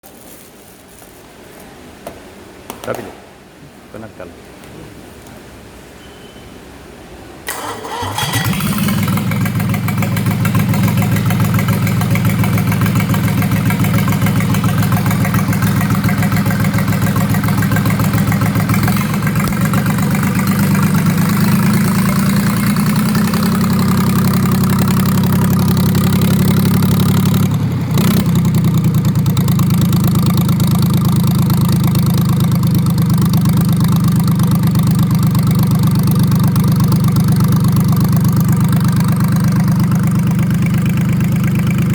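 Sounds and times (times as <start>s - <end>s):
diesel engine idling: 7.5s - 41.9s.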